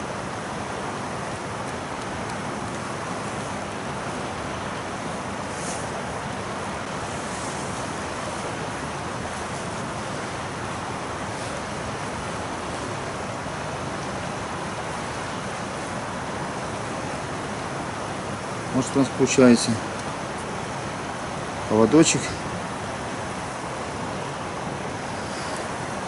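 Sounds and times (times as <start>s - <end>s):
river flowing: 0.0s - 26.0s.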